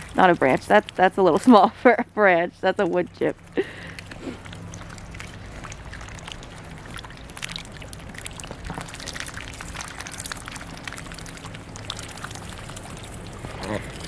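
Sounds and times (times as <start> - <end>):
ducks dabbling in slushy ice water: 0.0 - 14.0.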